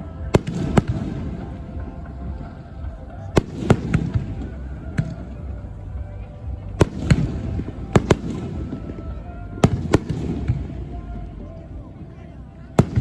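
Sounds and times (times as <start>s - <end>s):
fireworks bangs: 0.0s - 13.0s
low rumble of distant bursts: 0.0s - 13.0s.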